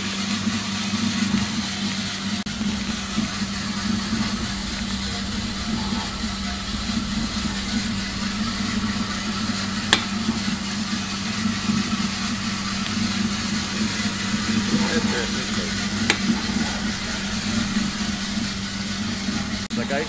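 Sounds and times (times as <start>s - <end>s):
coffee roaster motor hum: 0.0s - 20.0s
constant hiss: 0.0s - 20.0s.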